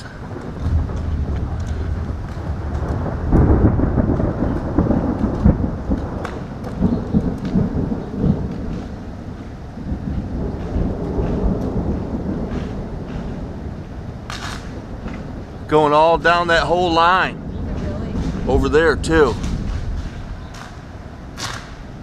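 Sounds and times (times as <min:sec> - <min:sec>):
rain falling: 0:00.0 - 0:22.0
thunder rolling: 0:00.0 - 0:22.0.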